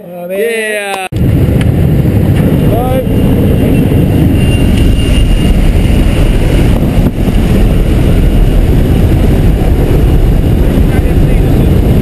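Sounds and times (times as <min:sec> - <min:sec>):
propeller plane engine: 0:01.2 - 0:12.0.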